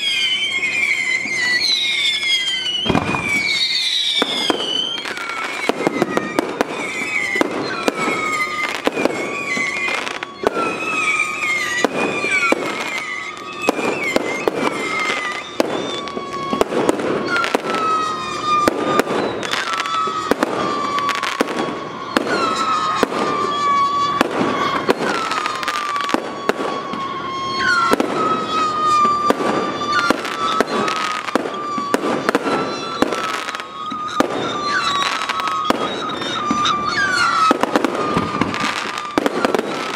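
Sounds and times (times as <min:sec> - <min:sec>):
fireworks bangs and crackling: 0:00.0 - 0:39.9
fireworks whistling: 0:00.0 - 0:39.9.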